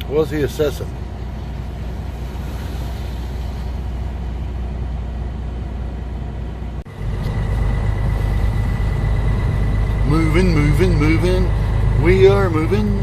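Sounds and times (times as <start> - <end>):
truck engine from inside cab: 0.0 - 13.0.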